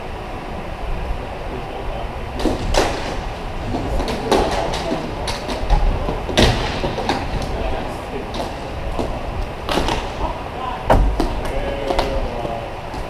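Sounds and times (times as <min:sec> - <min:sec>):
low rumble of rink noise: 0:00.0 - 0:13.0
hockey sticks and puck clacking: 0:02.4 - 0:13.0.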